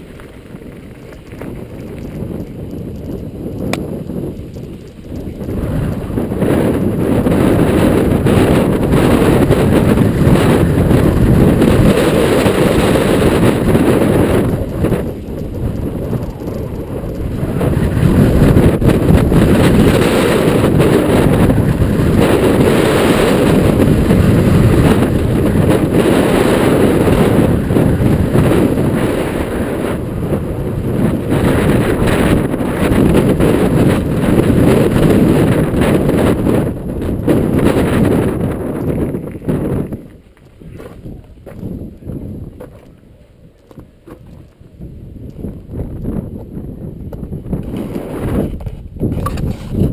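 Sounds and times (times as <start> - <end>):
bike tyres rattling on trail: 0.0 - 49.9
wind buffeting microphone: 0.0 - 49.9.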